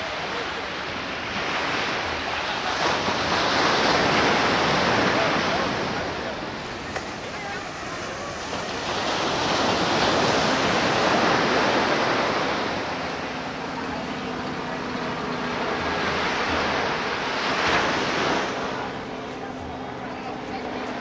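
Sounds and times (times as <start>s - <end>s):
ocean surf breaking on sand: 0.0s - 21.0s.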